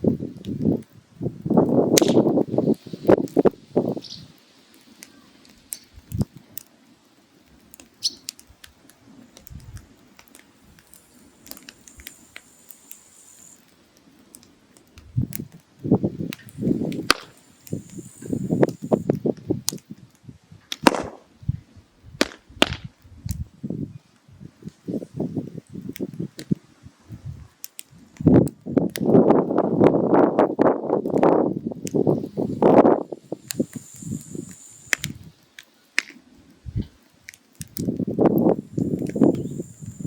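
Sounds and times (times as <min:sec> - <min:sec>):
firewood crackling and popping: 0:00.0 - 0:40.0.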